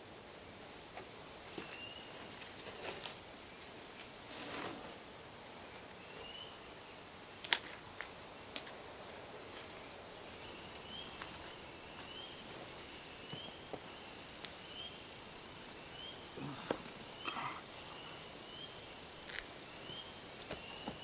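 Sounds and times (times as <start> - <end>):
outdoor ambience: 0.0 - 21.0.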